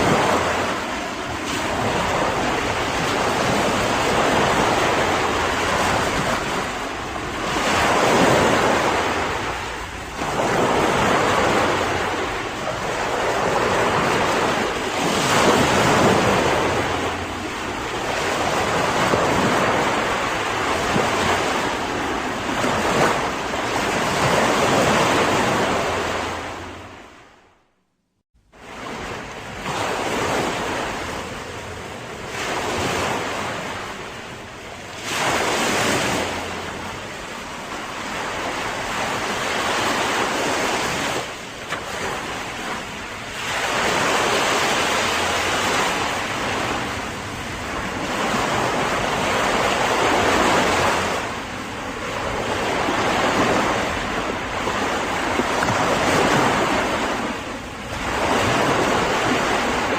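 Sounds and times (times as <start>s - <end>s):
ocean waves breaking on shore: 0.0s - 27.7s, 28.4s - 59.9s.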